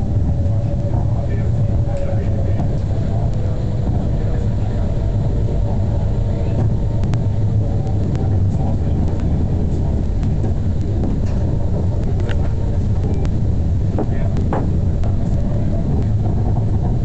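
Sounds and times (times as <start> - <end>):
faint whine: 0.0 - 17.0
tram rumbling on track: 0.0 - 17.0.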